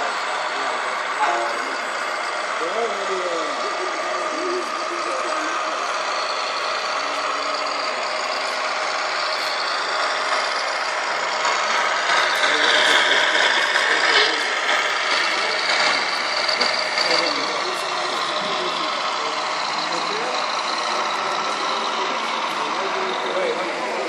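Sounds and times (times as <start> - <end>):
truck engine through small loudspeaker: 0.0 - 24.0.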